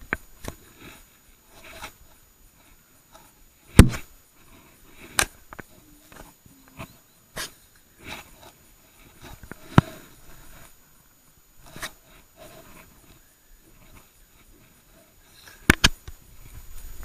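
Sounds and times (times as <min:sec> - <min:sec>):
faint rubbing and clicks: 0:00.0 - 0:17.0.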